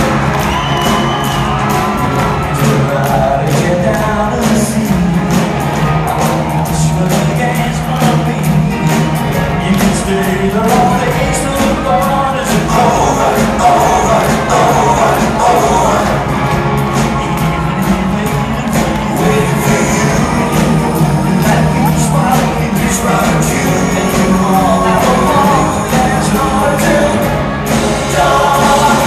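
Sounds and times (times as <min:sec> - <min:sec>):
drums keeping a steady beat: 0:00.0 - 0:29.0
electric guitars: 0:00.0 - 0:29.0
person singing: 0:00.0 - 0:29.0.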